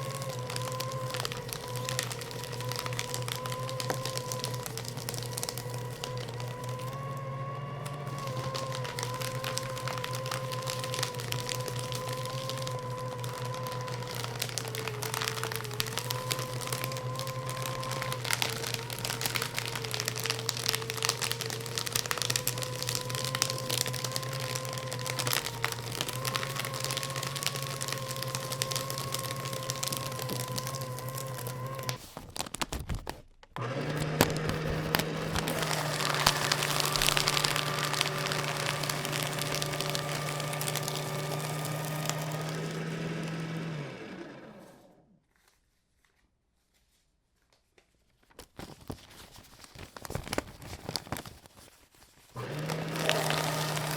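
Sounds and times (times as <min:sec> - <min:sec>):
paper shredder motor hum: 0:00.0 - 0:45.2, 0:52.3 - 0:53.9
paper crackling and crunching: 0:00.0 - 0:53.9.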